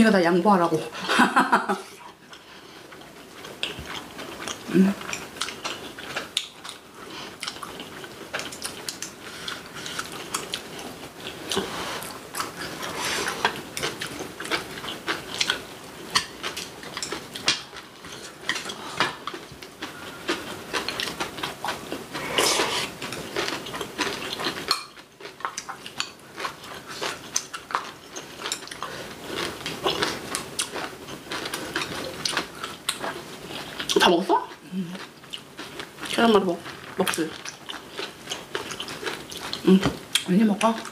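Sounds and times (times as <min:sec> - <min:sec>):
person chewing: 0:01.8 - 0:40.9.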